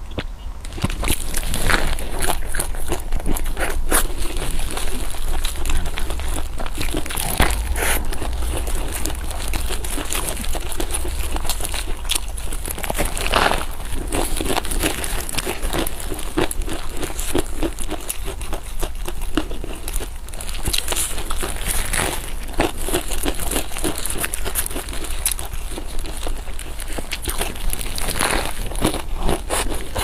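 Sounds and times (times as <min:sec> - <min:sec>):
person chewing food: 0:00.1 - 0:30.0.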